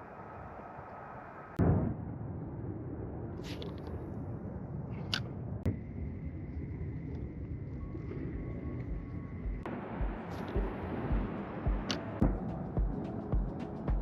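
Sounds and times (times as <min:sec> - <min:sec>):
wind and water noise: 0:00.0 - 0:14.0.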